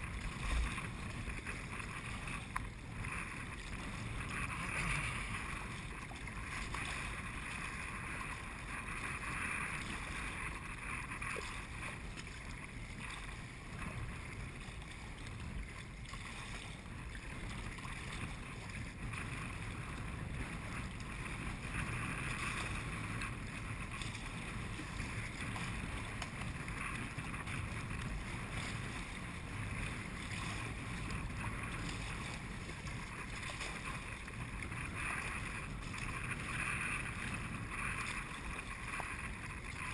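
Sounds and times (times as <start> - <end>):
water washing against kayak hull: 0.0 - 39.9
wind buffeting microphone: 0.0 - 39.9.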